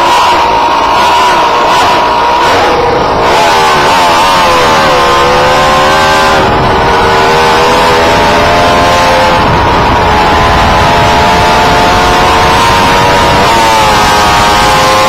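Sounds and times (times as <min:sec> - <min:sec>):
car motor and road noise: 0:00.0 - 0:15.0.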